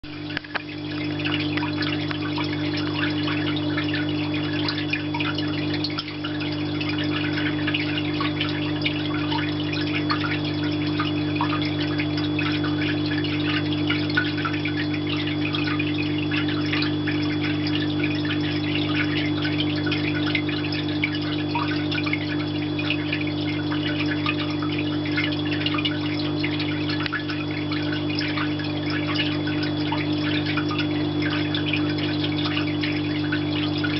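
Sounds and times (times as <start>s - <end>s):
water pump hum: 0.0s - 33.9s
water drops pattering: 0.1s - 33.9s.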